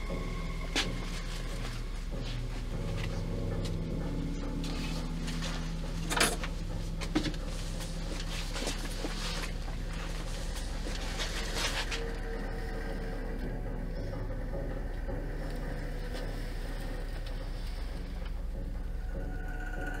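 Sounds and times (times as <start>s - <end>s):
low steady drone: 0.0s - 20.0s.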